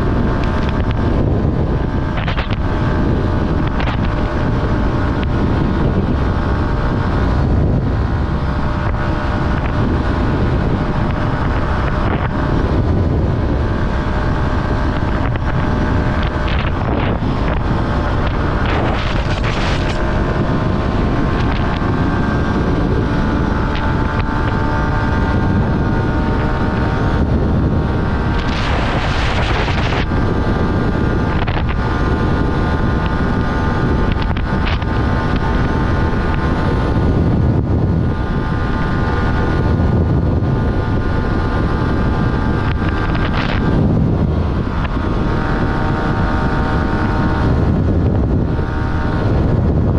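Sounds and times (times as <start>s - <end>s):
motorcycle engine running: 0.0s - 49.9s
wind rush over microphone: 0.0s - 49.9s.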